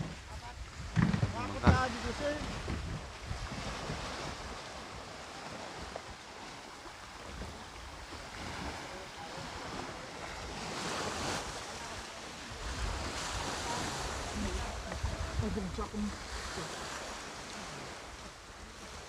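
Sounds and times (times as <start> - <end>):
sea waves washing: 0.0 - 19.0
wind on microphone: 0.0 - 19.0.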